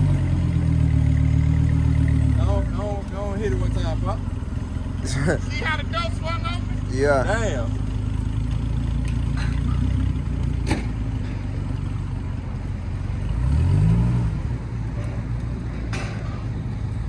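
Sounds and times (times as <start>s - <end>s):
engine revving: 0.0s - 16.3s
vehicle engine idling: 0.0s - 17.0s.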